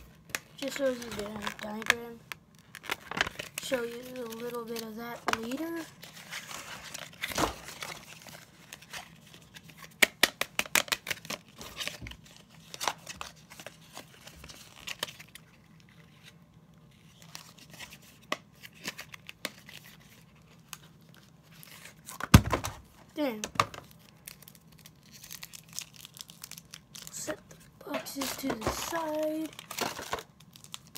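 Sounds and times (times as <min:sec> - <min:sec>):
packaging crinkling and tearing: 0:00.0 - 0:22.4, 0:23.8 - 0:30.9.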